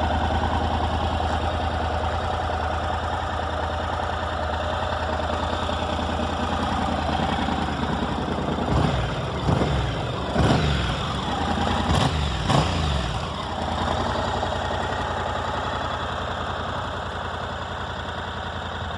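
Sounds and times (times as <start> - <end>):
motorcycle engine idling and revving: 0.0 - 18.9.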